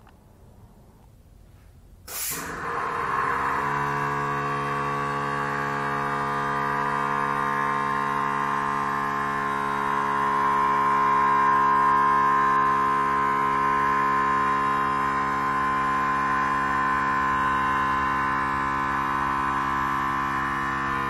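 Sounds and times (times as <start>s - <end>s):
air compressor humming and whining: 2.1s - 21.0s.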